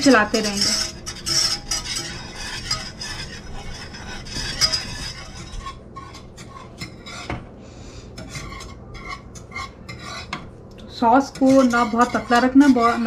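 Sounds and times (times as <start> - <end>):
whisk scraping a saucepan: 0.0 - 13.0.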